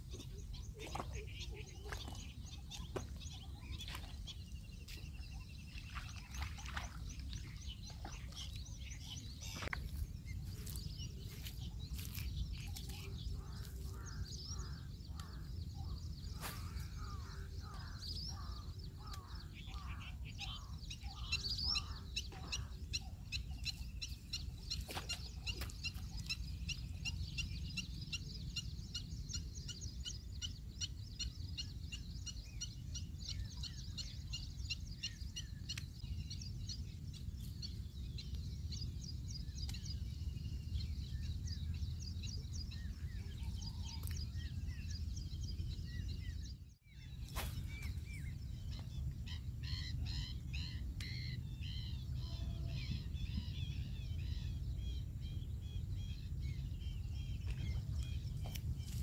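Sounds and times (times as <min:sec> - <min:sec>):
birds chirping and calling: 0:00.0 - 0:59.0.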